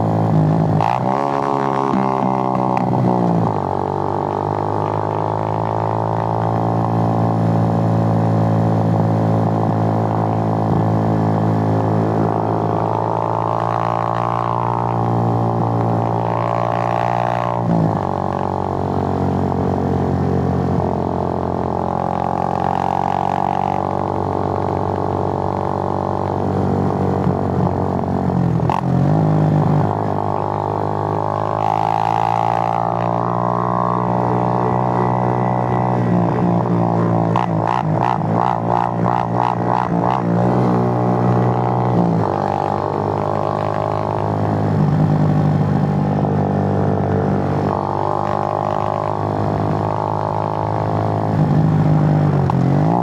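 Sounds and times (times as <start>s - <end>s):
motorcycle engine droning: 0.0s - 53.0s.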